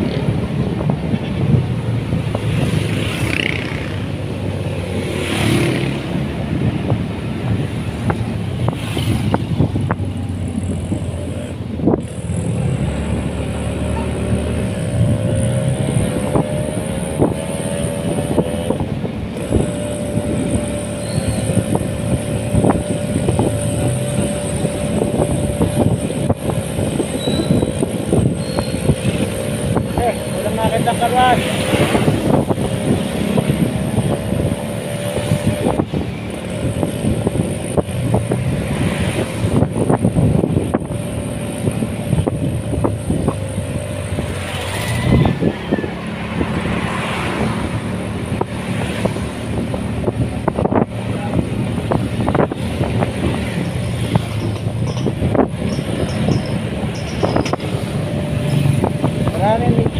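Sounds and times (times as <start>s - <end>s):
motorcycle engine running: 0.0s - 46.8s, 47.6s - 59.9s
wind on microphone: 0.0s - 59.9s.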